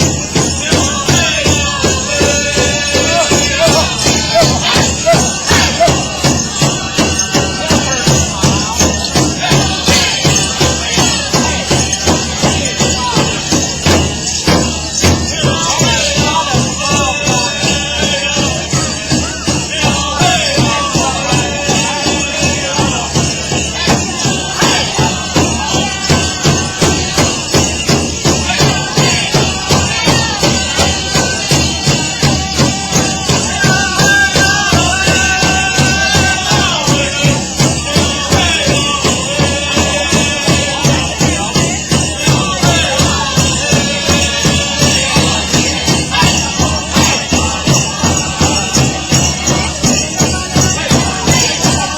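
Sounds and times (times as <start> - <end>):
high-pitched singing: 0.0 - 51.9
jingling shimmer: 0.0 - 51.9
large drum beating: 0.0 - 51.9.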